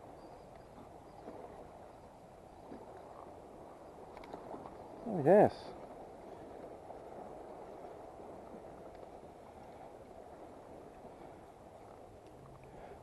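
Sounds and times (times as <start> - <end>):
sea water washing along stone: 0.0 - 13.0.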